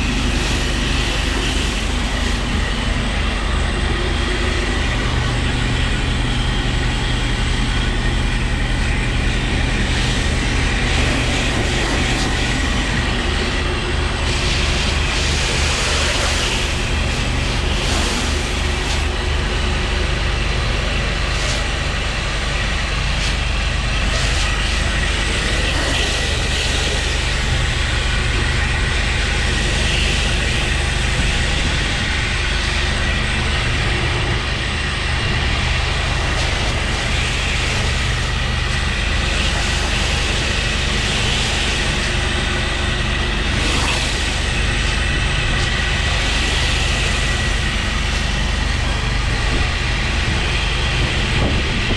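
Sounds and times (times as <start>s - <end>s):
engine drone: 0.0s - 51.9s
high-pressure water spray hissing: 0.0s - 51.9s.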